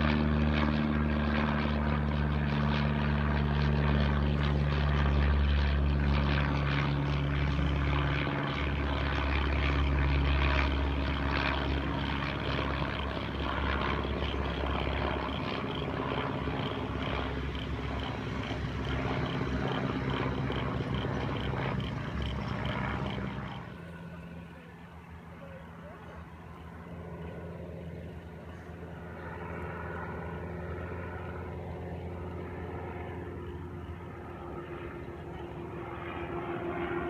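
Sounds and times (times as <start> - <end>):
propeller aircraft engine droning: 0.0 - 37.0.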